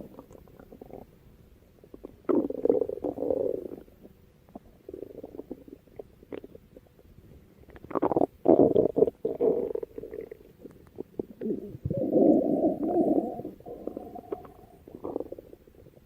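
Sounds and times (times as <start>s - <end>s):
stomach rumbling: 0.0s - 1.2s, 1.8s - 16.0s.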